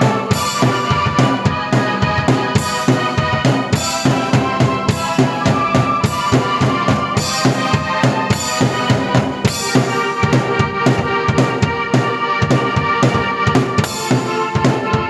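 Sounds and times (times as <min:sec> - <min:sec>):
drum kit playing a beat: 0:00.0 - 0:15.0
keyboard chords and melody: 0:00.0 - 0:15.0.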